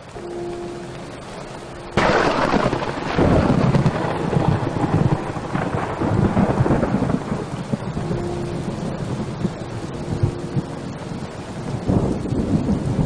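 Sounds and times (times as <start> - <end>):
heavy rain falling: 0.0 - 13.0
low rumbling: 0.0 - 13.0.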